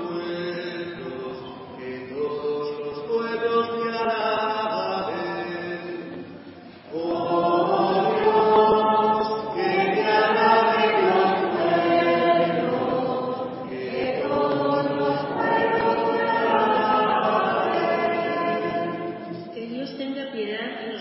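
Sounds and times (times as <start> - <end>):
voices chanting in church: 0.0 - 19.6.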